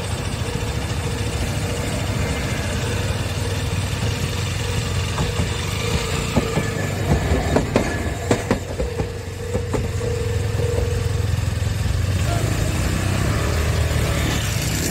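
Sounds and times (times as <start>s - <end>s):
tram wheels clacking on rails: 0.0s - 14.9s.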